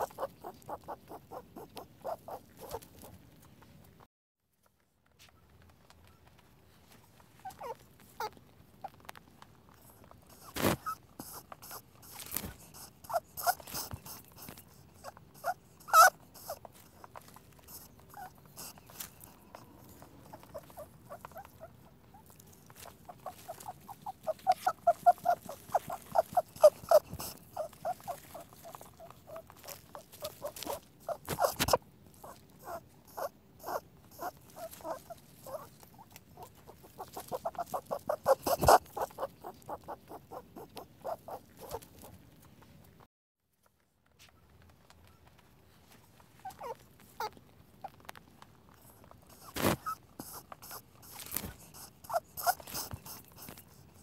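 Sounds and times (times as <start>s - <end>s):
rabbit squeaking: 0.0s - 3.7s, 7.2s - 42.7s, 46.2s - 54.0s.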